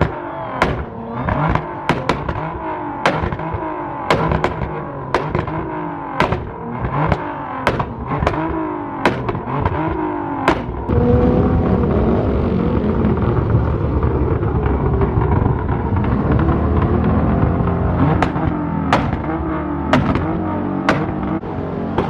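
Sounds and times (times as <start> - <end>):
car engine revving with cracks: 0.0 - 22.0.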